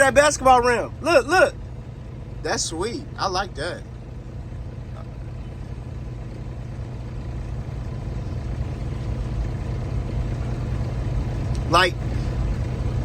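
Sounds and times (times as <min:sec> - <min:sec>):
diesel engine low rumble: 0:00.0 - 0:13.0.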